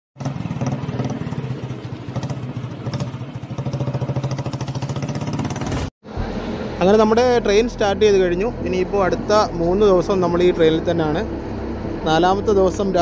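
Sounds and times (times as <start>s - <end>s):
motorcycle engine running: 0.2s - 13.0s.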